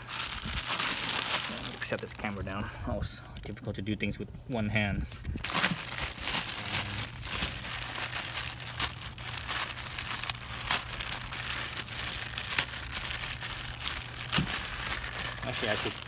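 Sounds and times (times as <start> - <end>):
plastic wrapping crinkling: 0.0 - 2.4, 5.3 - 16.0.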